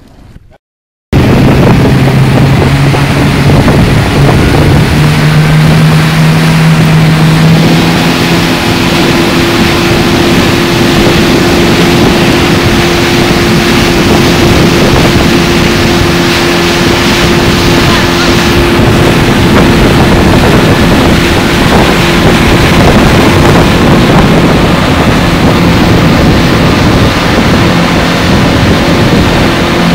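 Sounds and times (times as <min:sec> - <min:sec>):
outboard motor running: 0:00.0 - 0:29.9
rushing wake water: 0:00.0 - 0:29.9
wind on microphone: 0:00.0 - 0:29.9.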